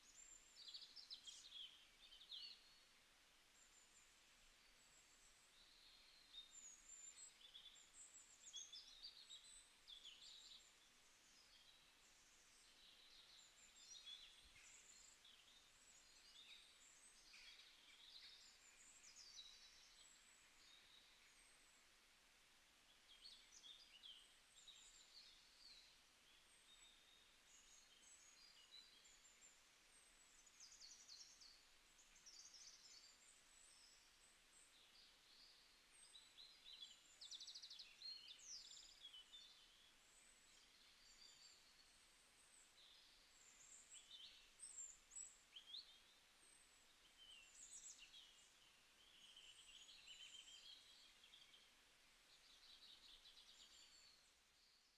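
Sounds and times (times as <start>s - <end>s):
low background hiss: 0.0s - 54.9s.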